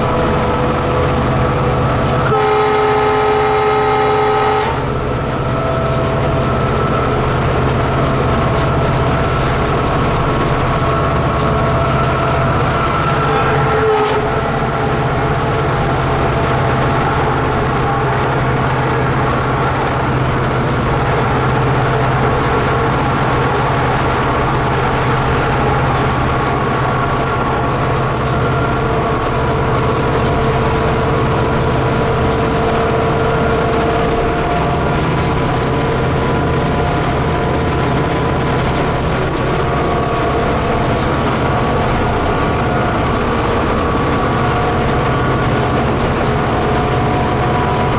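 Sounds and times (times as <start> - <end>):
diesel locomotive engine drone: 0.0 - 47.9.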